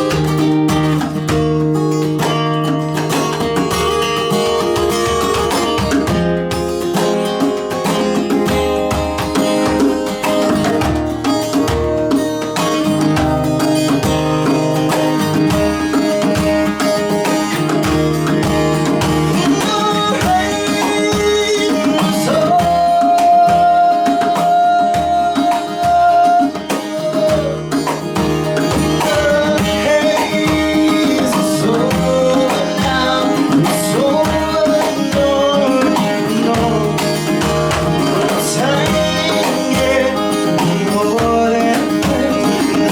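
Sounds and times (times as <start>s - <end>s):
plucked guitars: 0.0s - 42.9s.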